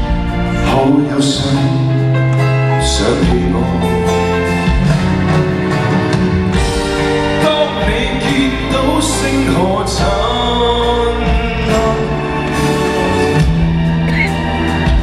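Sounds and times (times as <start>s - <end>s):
man singing: 0.0s - 5.8s, 7.0s - 13.5s
live band accompaniment: 0.0s - 15.0s.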